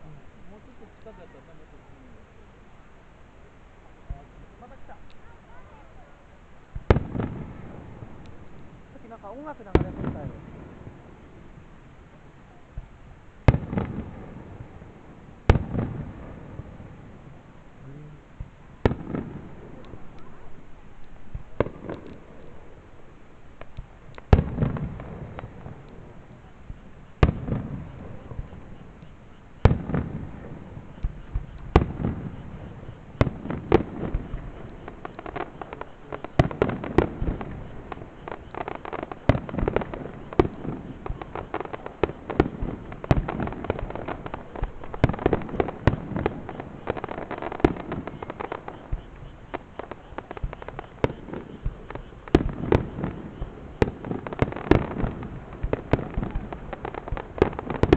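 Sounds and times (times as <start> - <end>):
fireworks bangs and crackling: 0.0 - 57.9
fireworks booming: 0.0 - 57.9.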